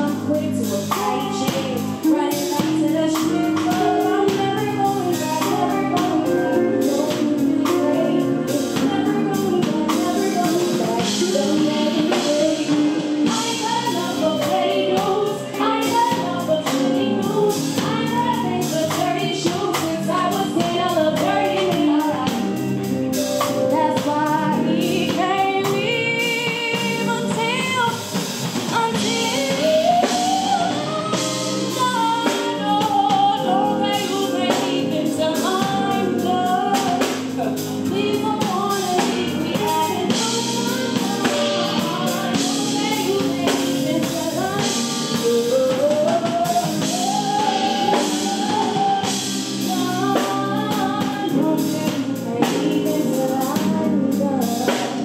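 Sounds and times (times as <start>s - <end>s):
bass guitar: 0.0s - 55.0s
drum kit: 0.0s - 55.0s
electric guitar: 0.0s - 55.0s
keyboard: 0.0s - 55.0s
woman singing: 0.0s - 55.0s.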